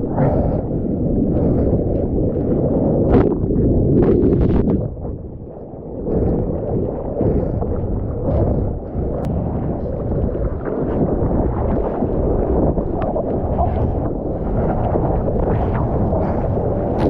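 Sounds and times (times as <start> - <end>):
waves rushing and churning: 0.0 - 17.0.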